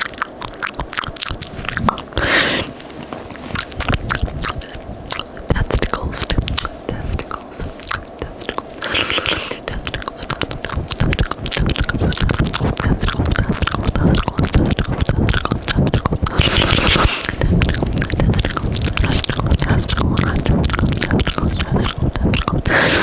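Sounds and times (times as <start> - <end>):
wet mouth clicks and smacks: 0.0 - 23.0.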